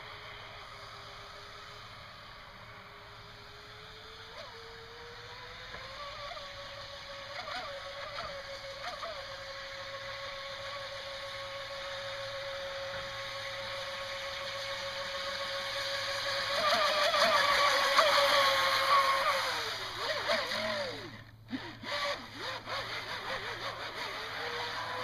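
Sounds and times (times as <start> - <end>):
electric motor high whine: 0.0 - 25.0.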